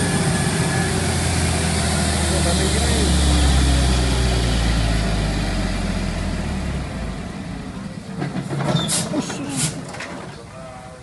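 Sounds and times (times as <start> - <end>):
diesel truck engine labouring: 0.0 - 10.0.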